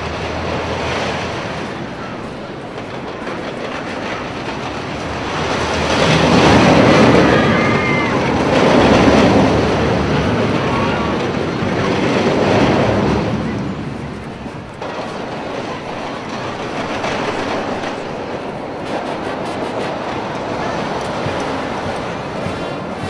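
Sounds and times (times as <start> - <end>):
carnival ride rumbling rush: 0.0 - 23.0.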